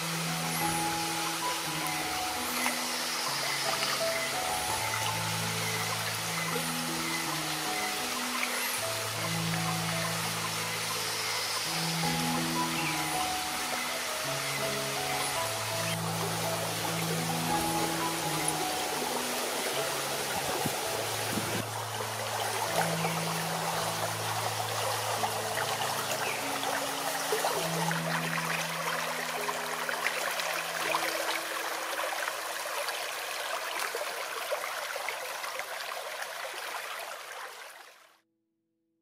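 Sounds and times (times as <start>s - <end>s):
soft music of low held notes: 0.0s - 33.9s
stream water rushing: 0.0s - 38.1s.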